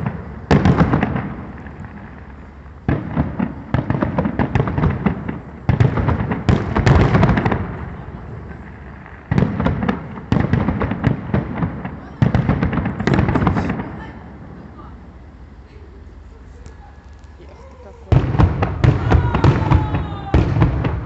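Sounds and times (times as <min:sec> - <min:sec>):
firework crackling: 0:00.0 - 0:21.0.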